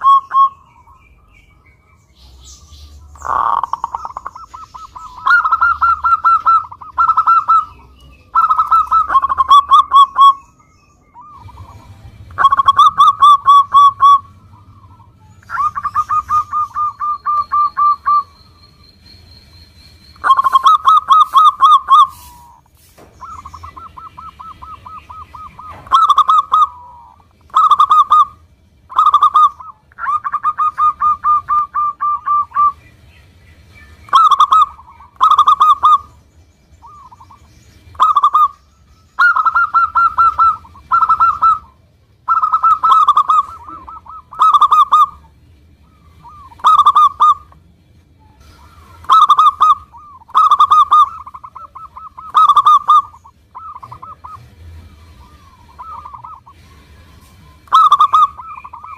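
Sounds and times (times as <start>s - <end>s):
dove cooing: 0.0s - 1.3s, 2.2s - 18.4s, 20.2s - 33.0s, 34.0s - 36.2s, 36.8s - 47.6s, 48.2s - 58.9s.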